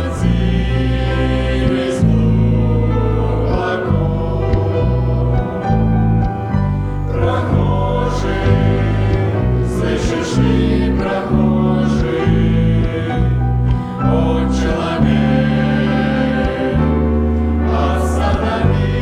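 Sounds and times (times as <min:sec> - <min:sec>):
choir singing: 0:00.0 - 0:19.0
instrumental accompaniment: 0:00.0 - 0:19.0.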